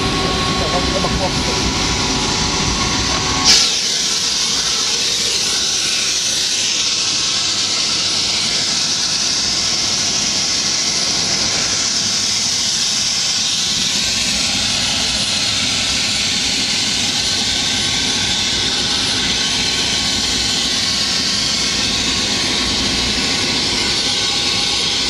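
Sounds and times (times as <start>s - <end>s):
helicopter cabin rushing hiss: 0.0s - 25.0s.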